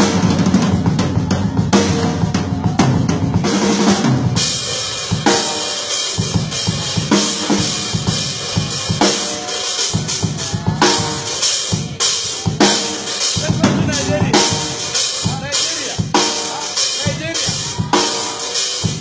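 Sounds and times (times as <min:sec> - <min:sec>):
drum kit playing a groove: 0:00.0 - 0:19.0.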